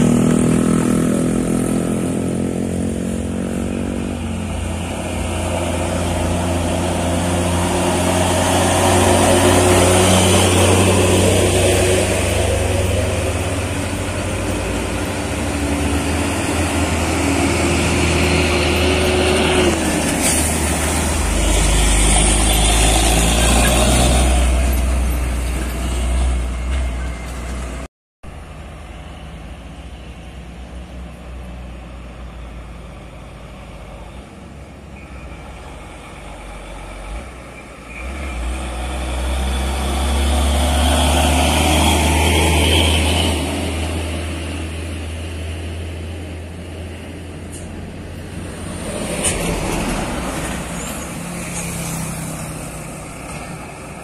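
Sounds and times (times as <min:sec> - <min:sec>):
distant truck engine: 0:00.0 - 0:54.0
truck diesel engines labouring: 0:00.0 - 0:54.0.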